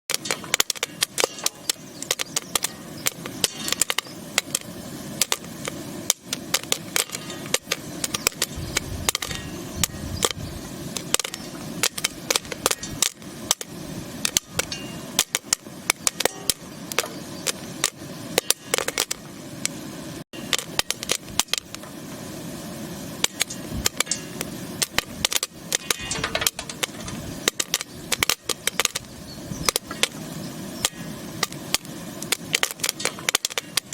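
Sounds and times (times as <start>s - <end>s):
popcorn popping: 0.1s - 19.8s, 20.4s - 22.3s, 23.0s - 33.9s
hiss from hot pot: 0.1s - 33.9s.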